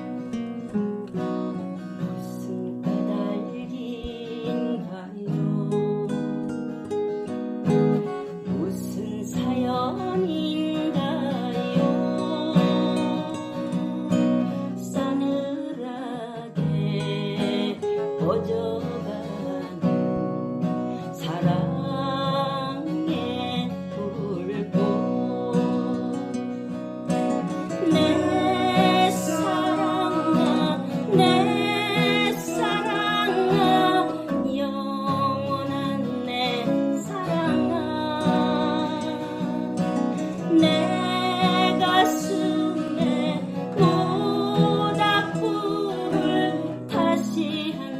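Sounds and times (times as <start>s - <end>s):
person singing: 0.0s - 6.5s, 8.0s - 47.9s
acoustic guitar: 0.0s - 47.9s.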